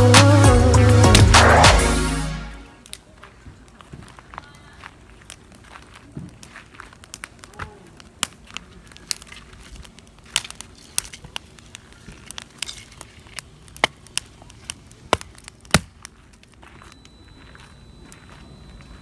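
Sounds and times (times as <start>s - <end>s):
campfire crackling and popping: 2.8s - 19.0s.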